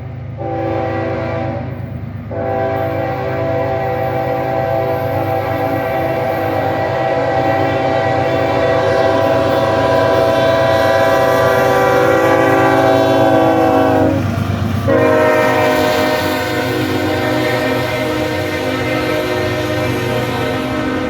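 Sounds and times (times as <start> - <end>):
passing train rumble: 0.0 - 21.0
locomotive air horn blast: 0.4 - 21.0.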